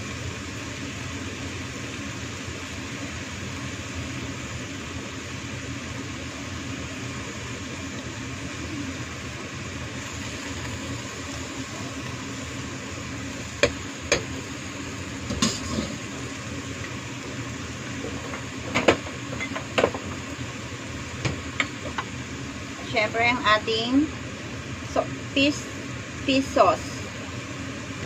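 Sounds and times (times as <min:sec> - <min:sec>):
steady cooking hiss: 0:00.0 - 0:28.0.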